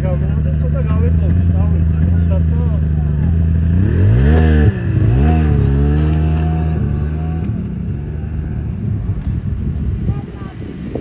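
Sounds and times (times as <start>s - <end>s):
snowmobile engine idling and revving: 0.0s - 11.0s.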